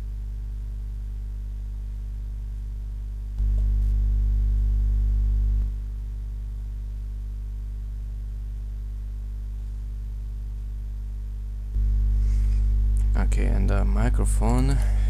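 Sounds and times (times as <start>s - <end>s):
mains hum: 0.0s - 15.0s.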